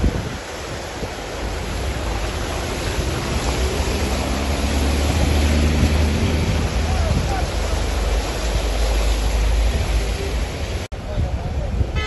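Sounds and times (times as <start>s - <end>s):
tyres sloshing through water: 0.0s - 10.9s
vehicle engine hum: 1.2s - 10.9s.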